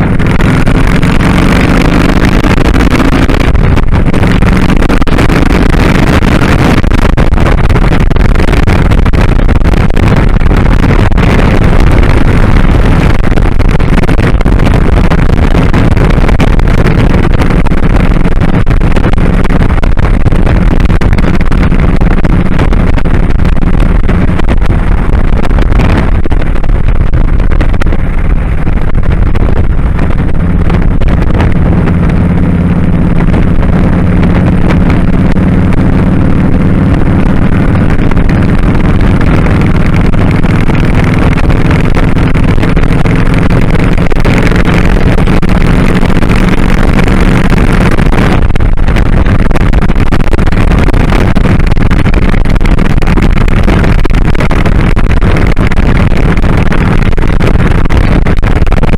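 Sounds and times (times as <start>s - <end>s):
motorcycle engine running: 0.0s - 58.9s
wind on microphone: 0.0s - 58.9s.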